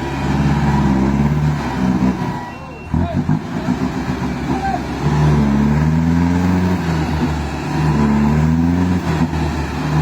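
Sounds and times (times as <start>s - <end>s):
truck engine running under load: 0.0s - 10.0s.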